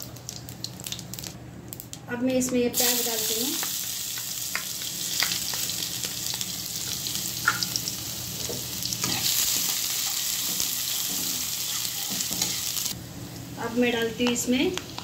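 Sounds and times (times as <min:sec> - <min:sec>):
onion sizzling in hot oil: 0:02.8 - 0:15.0.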